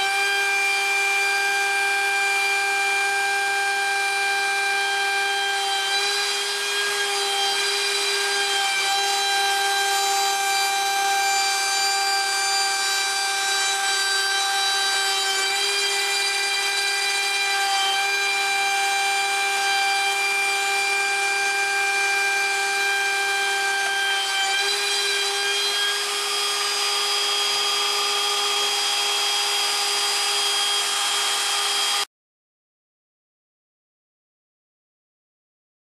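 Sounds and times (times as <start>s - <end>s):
router spindle whine: 0.0s - 32.1s.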